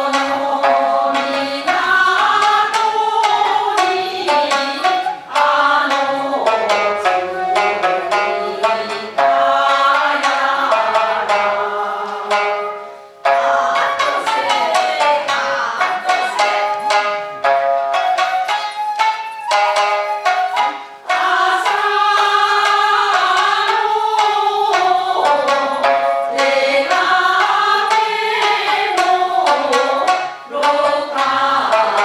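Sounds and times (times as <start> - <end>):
shamisen plucked: 0.0 - 32.0
sustained bending melody: 0.0 - 32.0.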